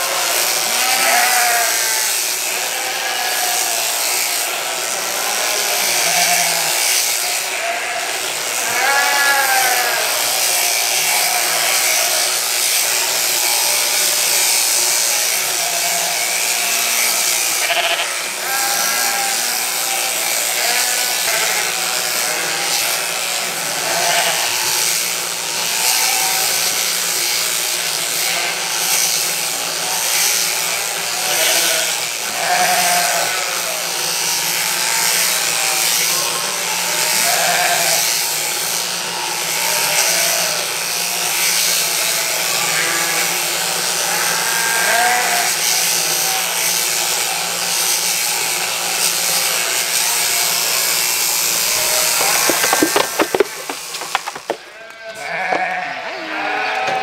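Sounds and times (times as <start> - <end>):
sheep bleating: 0.0 - 14.3, 15.0 - 26.8, 28.0 - 28.9, 30.8 - 38.4, 39.4 - 40.8, 41.9 - 46.8, 49.2 - 57.0
electric shears buzzing: 0.0 - 57.0.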